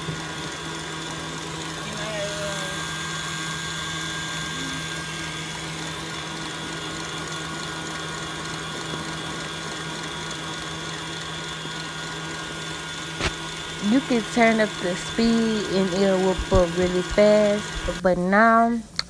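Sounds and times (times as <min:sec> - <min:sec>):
stand mixer motor humming: 0:00.0 - 0:18.0.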